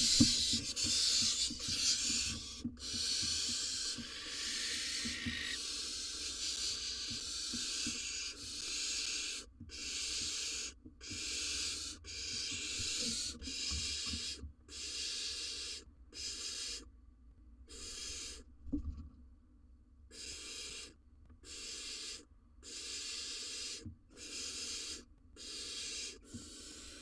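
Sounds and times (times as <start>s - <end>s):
owl chick raspy hissing calls: 0.0s - 16.9s, 17.7s - 18.5s, 20.1s - 27.0s.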